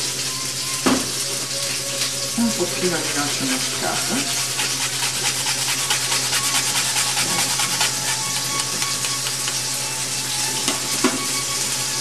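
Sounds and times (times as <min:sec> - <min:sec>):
onion sizzling in pan: 0:00.0 - 0:12.0.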